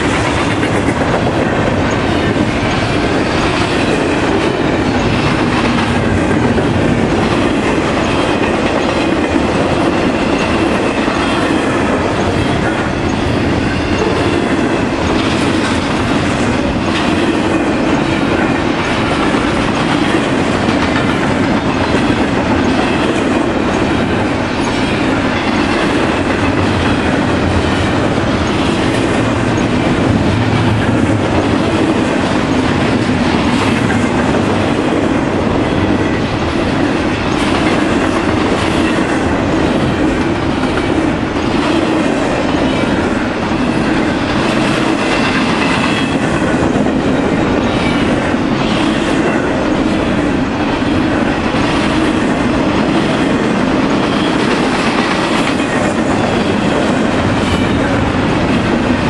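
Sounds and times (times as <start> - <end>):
steel wheels on rail: 0.0 - 59.0.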